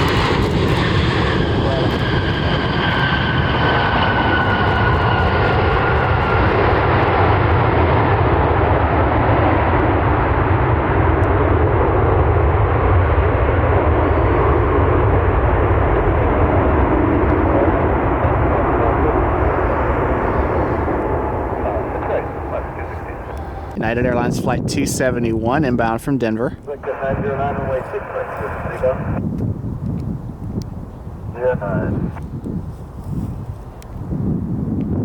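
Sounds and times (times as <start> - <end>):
jet airliner engines passing: 0.0 - 35.0.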